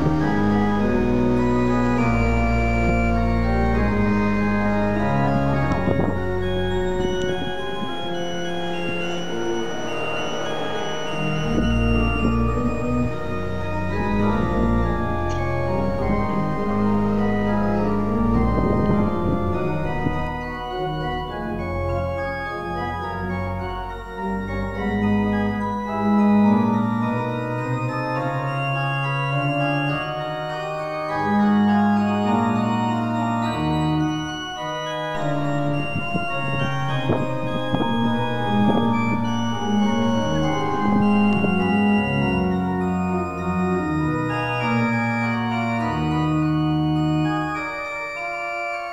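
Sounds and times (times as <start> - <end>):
organ playing slow chords: 0.0 - 48.9.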